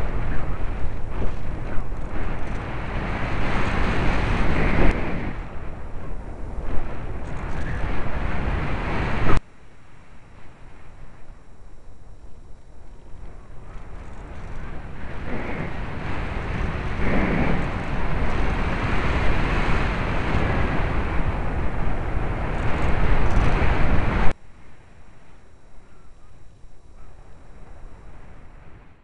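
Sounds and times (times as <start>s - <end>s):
rushing air buffeting microphone: 0.0s - 29.0s.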